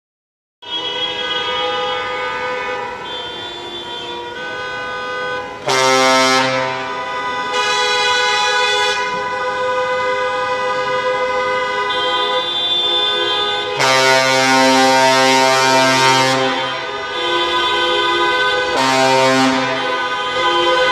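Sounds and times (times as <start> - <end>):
car horns honking: 0.6 - 20.9
deep loud horns: 0.6 - 20.9.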